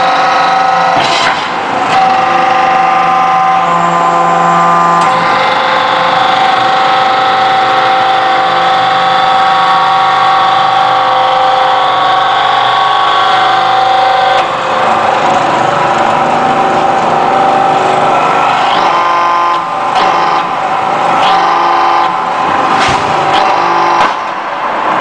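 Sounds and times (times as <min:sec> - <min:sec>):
hydraulic press whining: 0:00.0 - 0:25.0.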